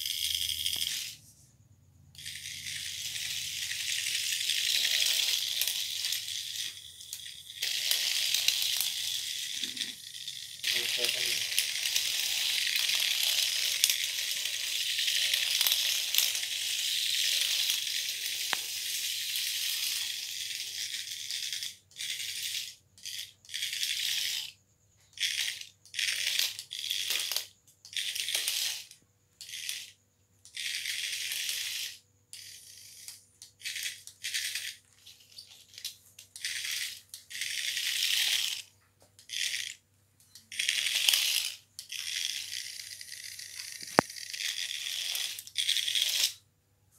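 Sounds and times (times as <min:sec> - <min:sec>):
toy snake buzzing and rattling: 0:00.0 - 0:46.5.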